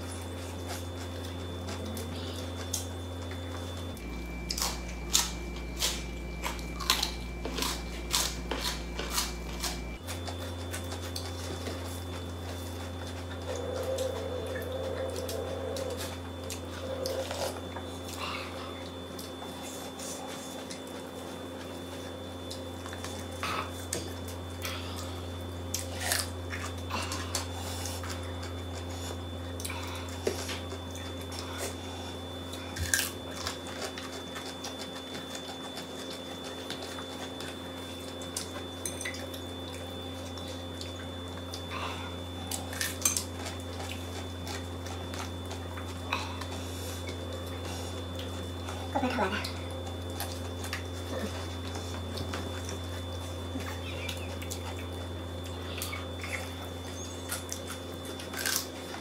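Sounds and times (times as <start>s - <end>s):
low steady hum: 0.0s - 59.0s
mouth sounds eating: 0.0s - 59.0s.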